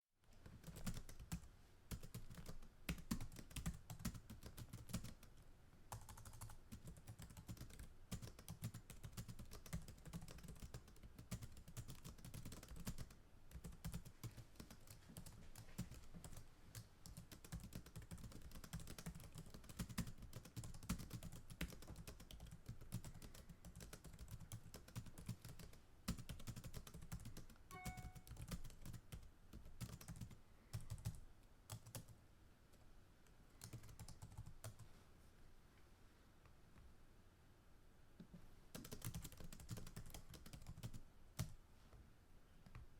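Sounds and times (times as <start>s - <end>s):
computer keyboard typing: 0.4s - 32.2s, 33.6s - 34.8s, 38.7s - 41.6s.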